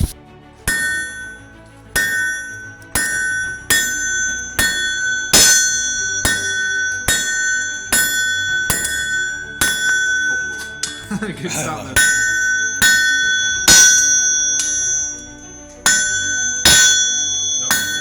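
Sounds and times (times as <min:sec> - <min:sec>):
anvil ringing: 0:00.6 - 0:18.0
hammer striking metal on anvil: 0:00.6 - 0:18.0.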